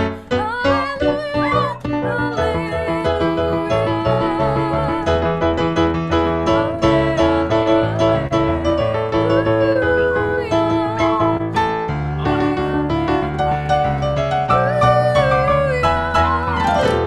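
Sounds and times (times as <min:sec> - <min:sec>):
piano playing hymn chords: 0:00.0 - 0:17.0.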